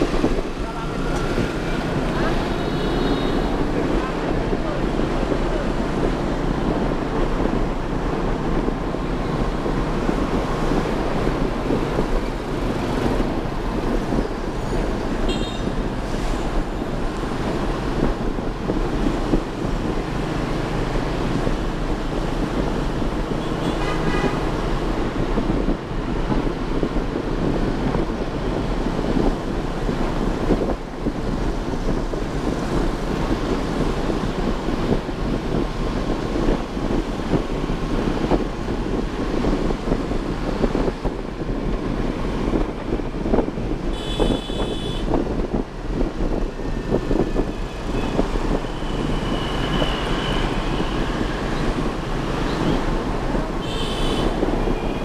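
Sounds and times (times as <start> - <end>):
street traffic: 0.0 - 55.0
wind buffeting microphone: 0.0 - 55.0.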